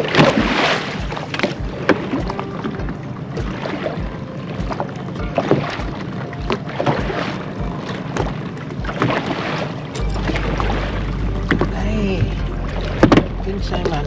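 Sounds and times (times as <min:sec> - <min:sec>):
boat and water noise: 0:00.0 - 0:14.0
low pulse: 0:00.0 - 0:14.0.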